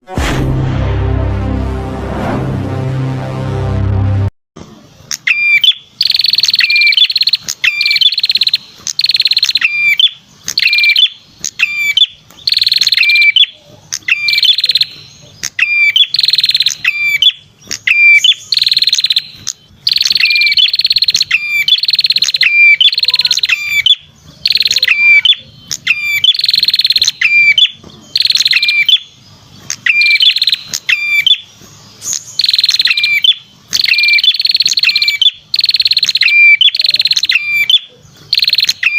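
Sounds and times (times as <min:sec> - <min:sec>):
buzzy bird trill with sharp chirps: 0:04.9 - 0:38.9.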